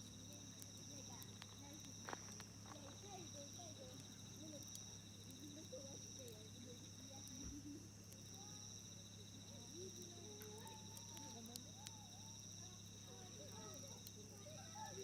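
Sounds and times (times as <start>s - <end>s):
faint distant voices: 0.0s - 15.0s
insects trilling: 0.0s - 15.0s
wood fire crackling: 0.0s - 15.0s.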